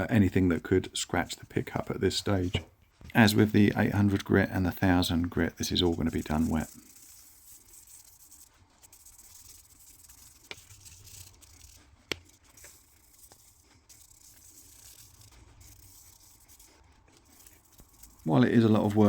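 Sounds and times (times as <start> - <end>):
sanding pad wet rubbing: 3.3 - 19.0.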